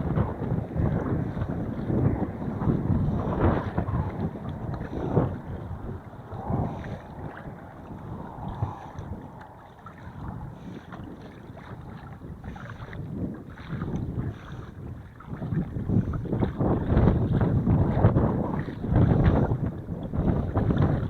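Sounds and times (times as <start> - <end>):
water splashing around kayak: 0.0 - 21.0
wind gusting on microphone: 0.0 - 21.0.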